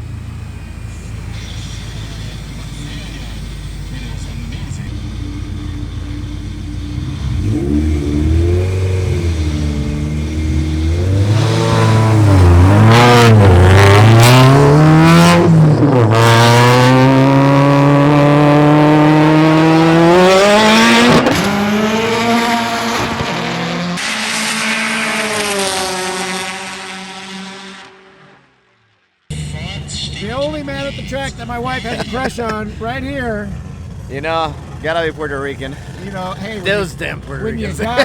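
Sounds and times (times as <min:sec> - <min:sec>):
car engine revving and accelerating: 0:00.0 - 0:28.6, 0:29.3 - 0:38.0.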